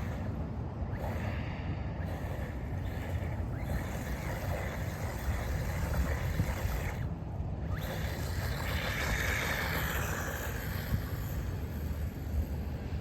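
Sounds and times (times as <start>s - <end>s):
electric toy car motor whine: 0.0s - 13.0s
wind buffeting microphone: 0.0s - 13.0s.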